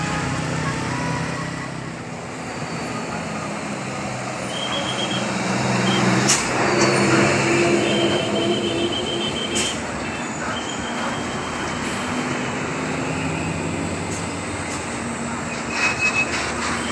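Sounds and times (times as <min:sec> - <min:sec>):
bus engine passing: 0:00.0 - 0:16.9.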